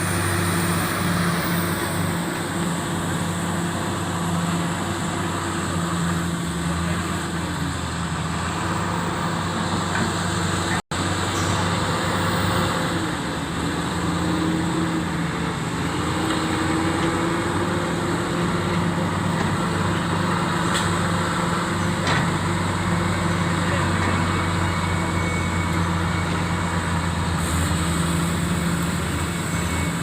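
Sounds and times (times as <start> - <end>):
excavator diesel engine running: 0.0 - 30.0
hydraulic whine: 0.0 - 30.0.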